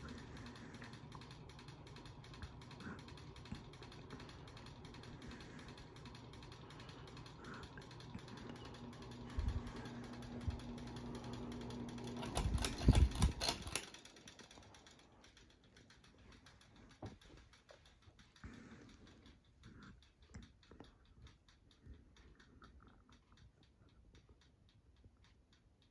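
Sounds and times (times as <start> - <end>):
ceiling fan motor hum: 0.0 - 25.9
spinning fan ticking: 0.0 - 25.9.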